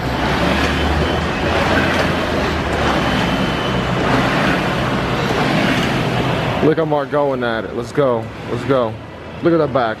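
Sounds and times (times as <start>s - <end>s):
rowing machine water churning: 0.0s - 9.6s.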